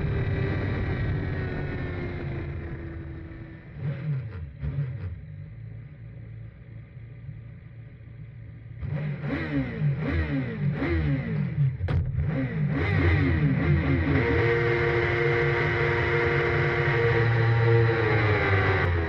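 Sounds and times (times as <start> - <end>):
racing sidecar engine revving: 0.0 - 5.9, 8.7 - 19.0.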